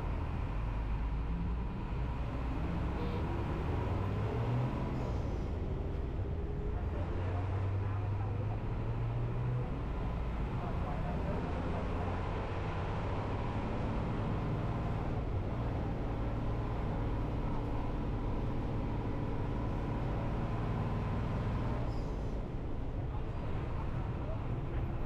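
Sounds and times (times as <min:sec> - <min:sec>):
bus engine running: 0:00.0 - 0:25.0
road noise: 0:00.0 - 0:25.0.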